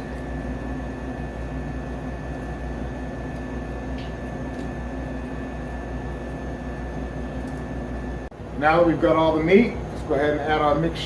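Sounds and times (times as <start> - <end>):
kitchen hum and hiss: 0.0 - 11.0.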